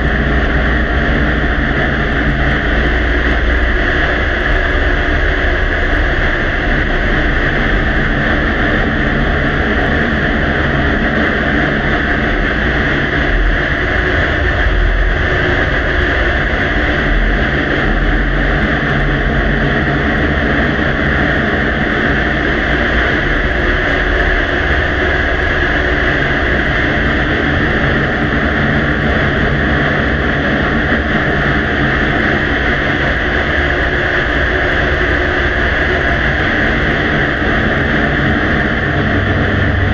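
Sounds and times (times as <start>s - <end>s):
low rumble: 0.0s - 39.9s
steady loud hiss: 0.0s - 39.9s.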